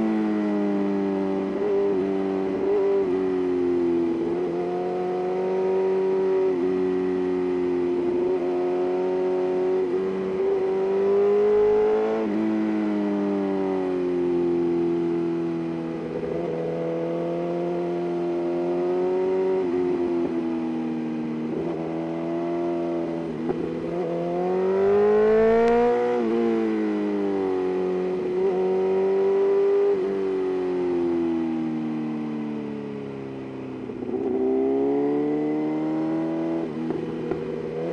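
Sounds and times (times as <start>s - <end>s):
motorcycle engine revving: 0.0s - 20.4s, 21.2s - 31.2s, 33.8s - 37.9s.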